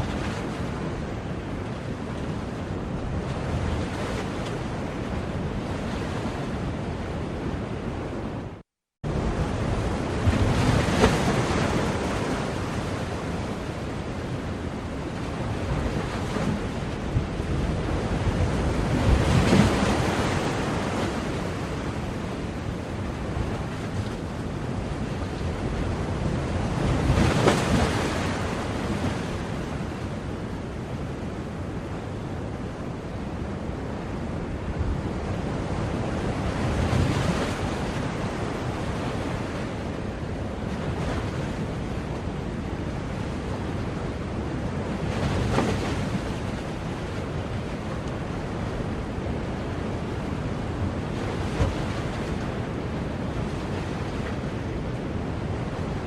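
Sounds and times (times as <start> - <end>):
ocean waves washing: 0.0 - 56.0.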